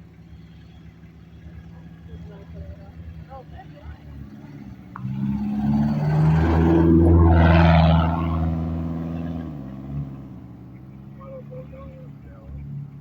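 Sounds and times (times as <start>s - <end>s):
vehicle engine driving past: 1.5s - 13.0s.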